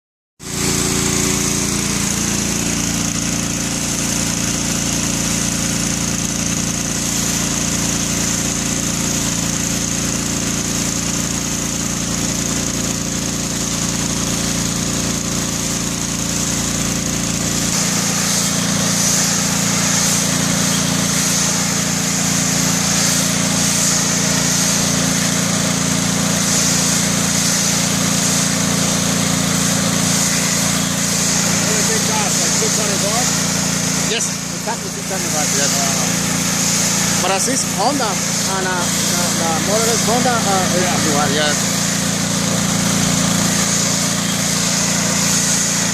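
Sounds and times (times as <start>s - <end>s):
pressure washer engine running: 0.4s - 45.9s
high-pressure spray hiss: 0.7s - 11.8s, 17.5s - 45.9s.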